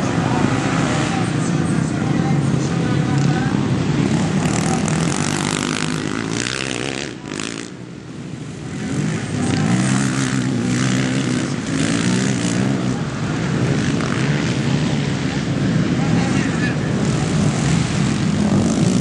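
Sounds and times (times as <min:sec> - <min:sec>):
quad engines revving: 0:00.0 - 0:19.0.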